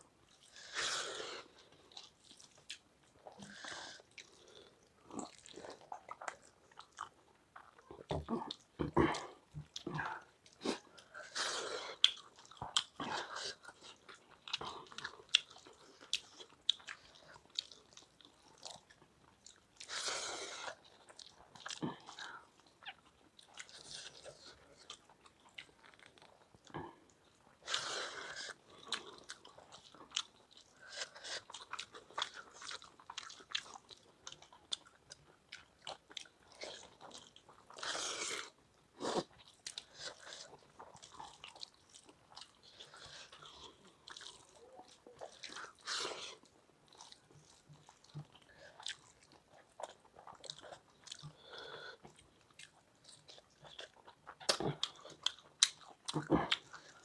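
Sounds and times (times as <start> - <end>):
chewing with small clicks: 1.4 - 20.0, 20.6 - 57.0.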